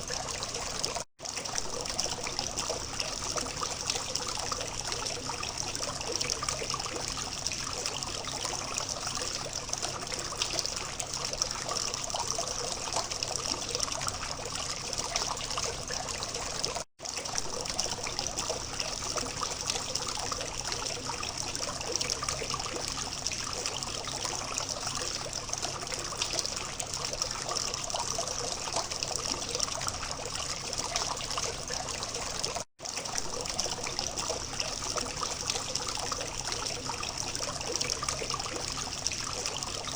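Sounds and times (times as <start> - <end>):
fountain water trickling: 0.0 - 39.9.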